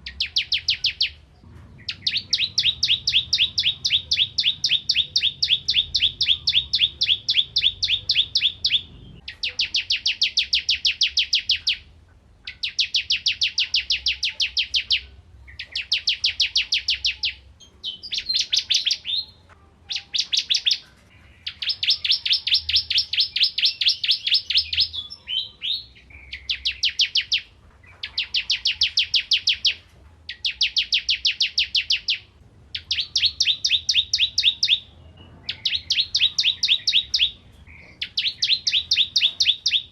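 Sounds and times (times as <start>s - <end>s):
bird singing rapid high notes: 0.0s - 39.9s.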